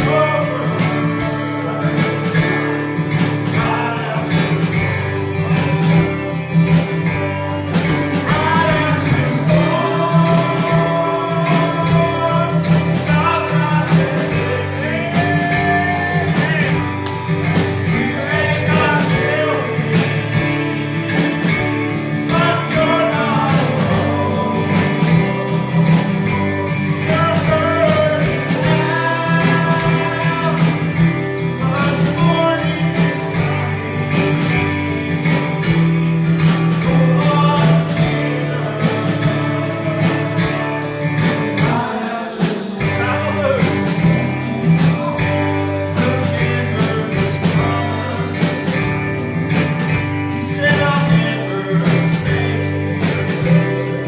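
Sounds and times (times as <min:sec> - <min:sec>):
guitar with steady beat: 0:00.0 - 0:54.0
person singing: 0:00.0 - 0:54.0.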